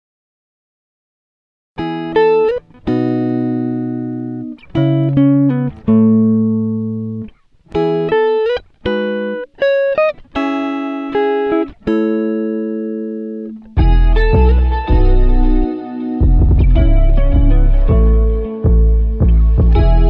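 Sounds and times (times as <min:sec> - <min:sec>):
plucked guitar chords: 0:01.8 - 0:20.0.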